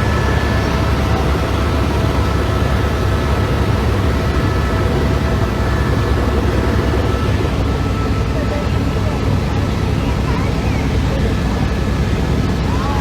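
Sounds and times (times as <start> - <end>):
faint steady whines: 0.0 - 13.0.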